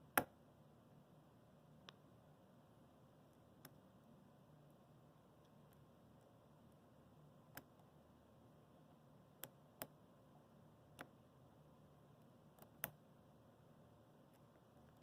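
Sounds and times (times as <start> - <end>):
quiet low hum: 0.0 - 15.0.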